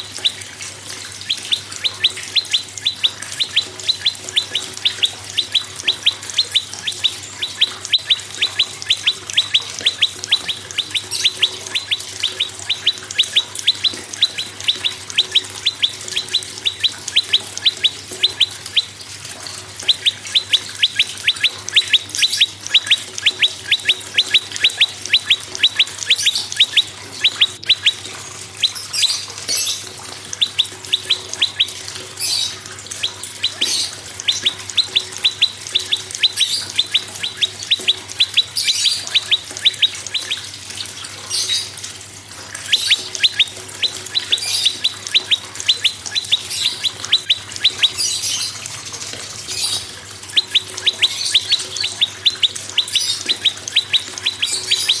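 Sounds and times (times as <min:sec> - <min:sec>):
birds singing repeated notes: 0:00.0 - 0:55.0
higher bird chirps: 0:00.0 - 0:55.0.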